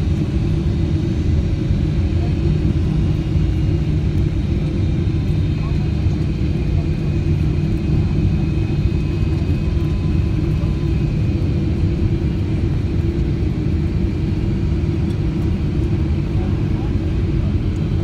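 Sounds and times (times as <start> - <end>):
airplane cabin rumble: 0.0 - 18.0
faint steady engine tones: 0.0 - 18.0.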